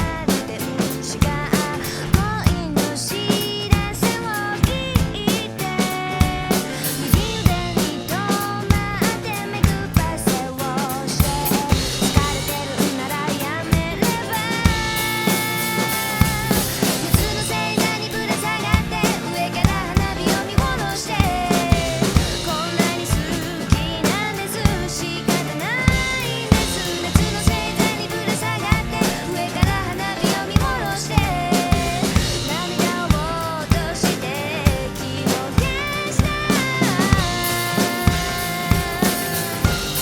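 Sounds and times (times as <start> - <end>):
drum kit playing: 0.0 - 40.0
pop song with vocal: 0.0 - 40.0.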